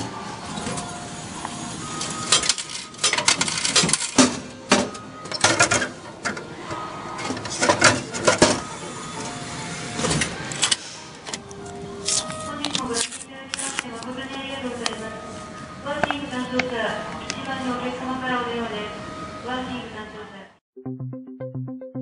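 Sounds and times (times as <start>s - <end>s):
vending machine dispensing: 0.0s - 17.8s.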